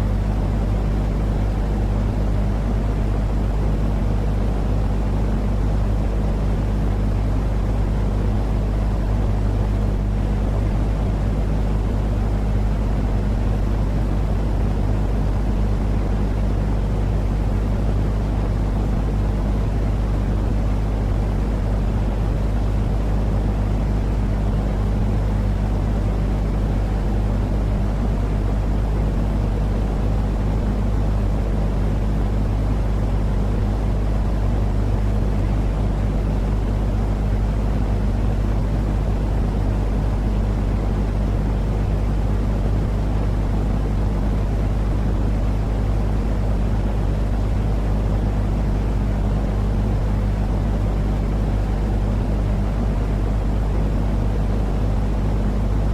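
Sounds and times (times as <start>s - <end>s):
faint low hum: 0.0s - 55.9s
white noise hiss: 0.0s - 55.9s.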